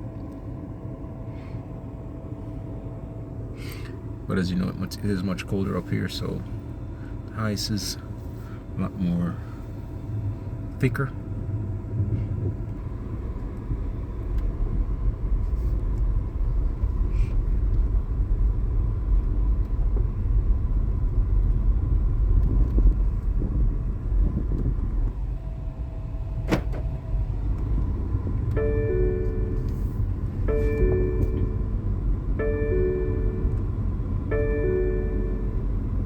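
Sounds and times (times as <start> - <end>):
car engine rumble from inside: 0.0 - 36.0.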